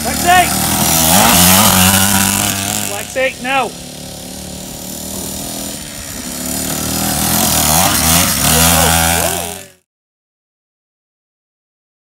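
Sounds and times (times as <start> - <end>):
dirt bike engine running: 0.0 - 9.8.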